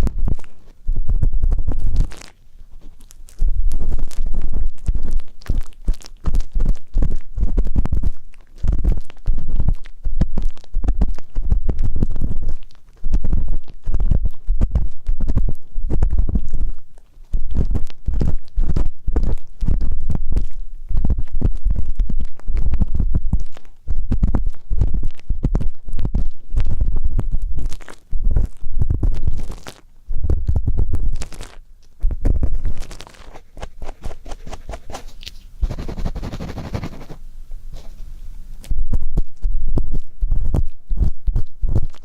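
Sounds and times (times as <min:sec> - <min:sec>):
ear pick scratching microphone: 0:00.0 - 0:42.0.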